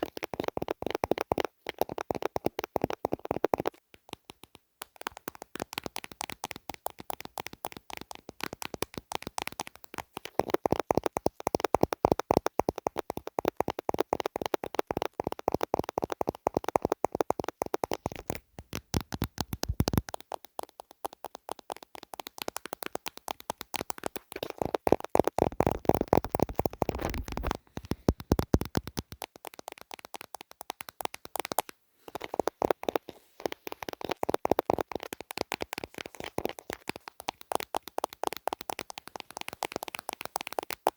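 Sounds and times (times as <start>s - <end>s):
rapid tapping on hard object: 0.0s - 40.9s.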